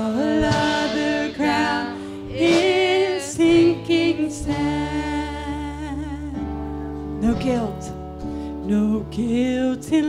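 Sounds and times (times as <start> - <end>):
worship band music: 0.0 - 10.0.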